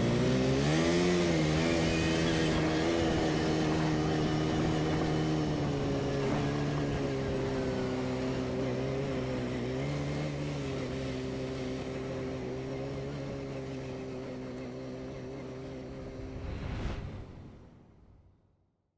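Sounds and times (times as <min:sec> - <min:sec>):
atv engine running: 0:00.0 - 0:16.4.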